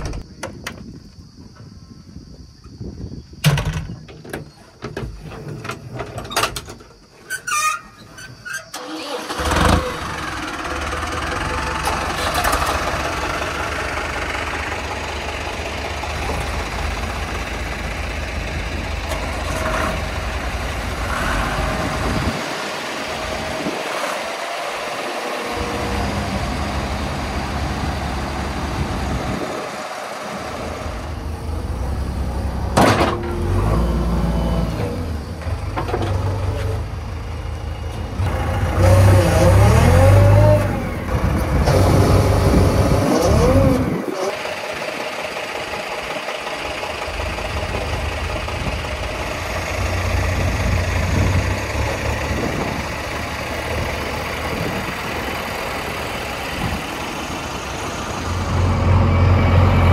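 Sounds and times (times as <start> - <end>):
heavy diesel engines revving: 8.1 - 59.9.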